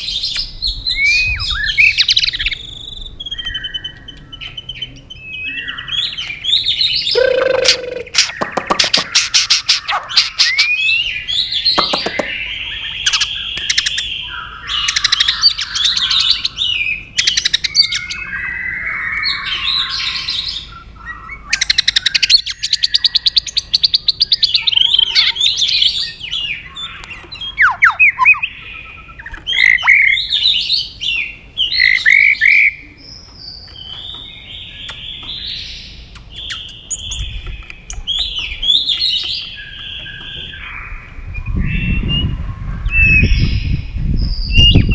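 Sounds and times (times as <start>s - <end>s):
bird singing varied song: 0.0s - 44.9s.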